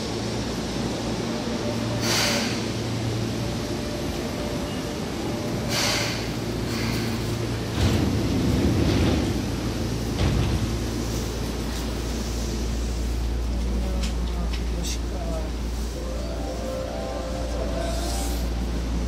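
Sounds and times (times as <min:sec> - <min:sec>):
electric train humming: 0:00.0 - 0:19.0.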